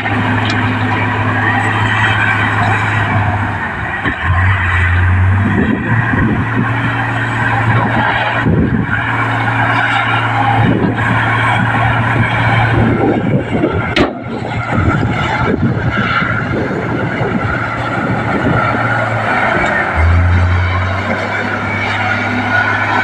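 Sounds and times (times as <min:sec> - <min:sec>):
bulldozer diesel engine running: 0:00.0 - 0:23.0
grinding scraping noise: 0:00.0 - 0:23.0.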